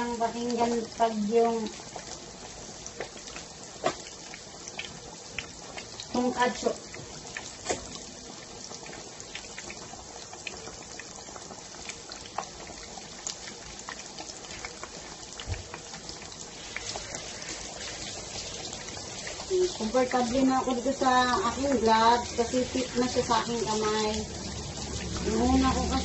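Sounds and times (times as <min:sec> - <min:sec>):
oil popping and crackling: 0:00.0 - 0:26.0
pork frying in hot oil: 0:00.0 - 0:26.0.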